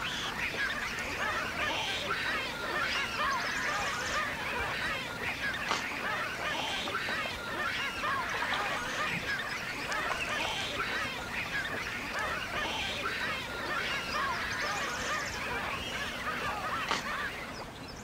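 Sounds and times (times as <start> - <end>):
chorus of animals calling: 0.0 - 18.0.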